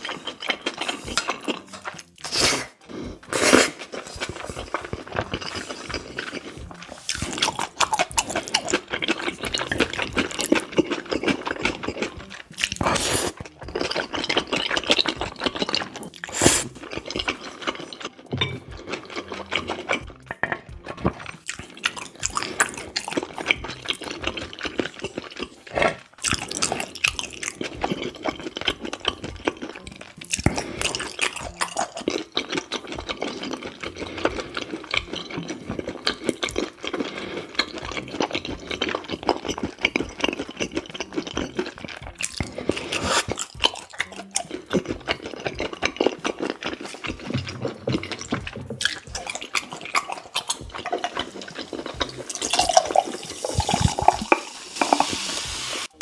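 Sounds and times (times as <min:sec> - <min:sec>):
wet chewing and slurping: 0:00.0 - 0:56.0.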